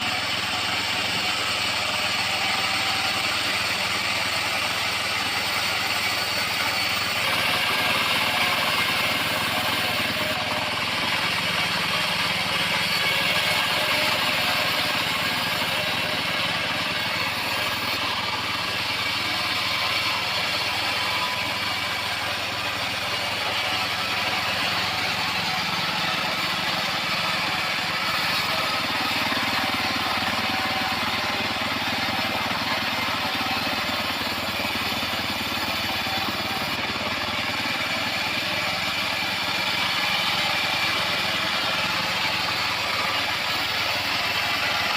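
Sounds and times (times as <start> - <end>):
band sawmill running: 0.0 - 44.9.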